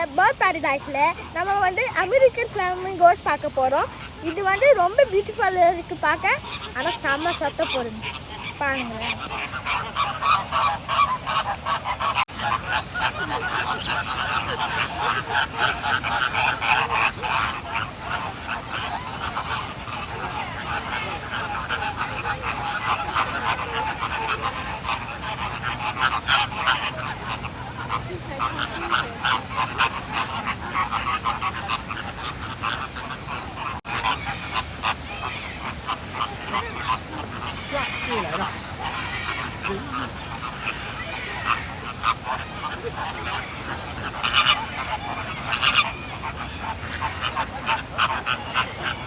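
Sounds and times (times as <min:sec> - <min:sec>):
flamingos honking: 0:00.0 - 0:49.0.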